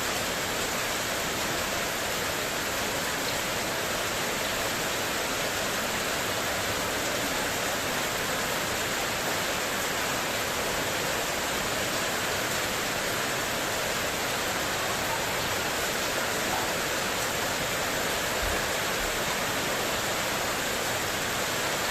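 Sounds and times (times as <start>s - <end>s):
heavy rain on a metal roof: 0.0s - 21.9s.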